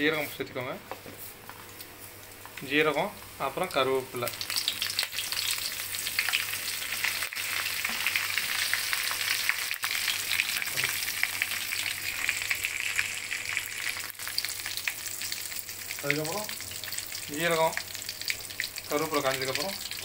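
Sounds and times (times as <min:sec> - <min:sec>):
spices sizzling in hot oil: 0:01.2 - 0:20.0.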